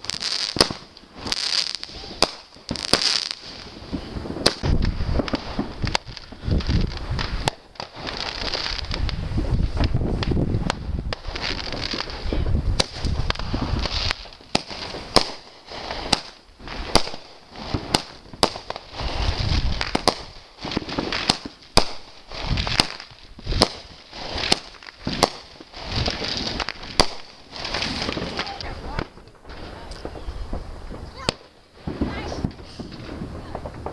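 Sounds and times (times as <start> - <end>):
fireworks bangs: 0.0 - 33.9
rough crackling noise: 0.0 - 33.9.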